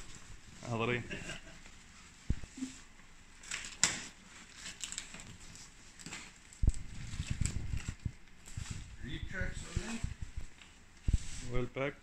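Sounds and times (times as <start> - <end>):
plastic wrapping crinkling: 0.0 - 11.6.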